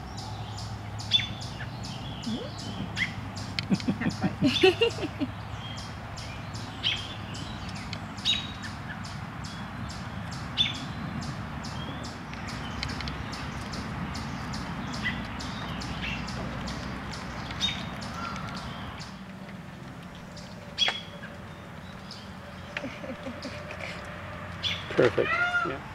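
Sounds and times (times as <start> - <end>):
steady low rumble: 0.0 - 24.1
birds chirping: 0.0 - 25.9.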